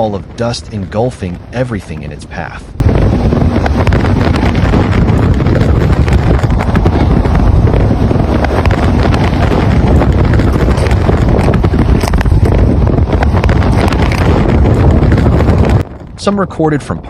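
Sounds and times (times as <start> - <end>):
crackles and rattles: 0.0 - 16.4
wind buffeting microphone: 0.0 - 17.0.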